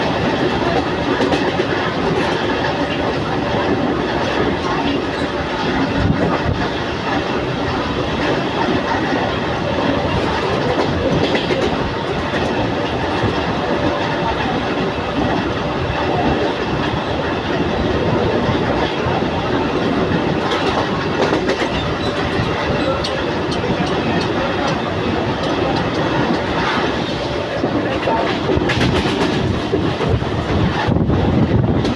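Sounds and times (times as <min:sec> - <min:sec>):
clickety-clack of wheels on rail joints: 0:00.0 - 0:31.9
train carriages rumbling: 0:00.0 - 0:31.9.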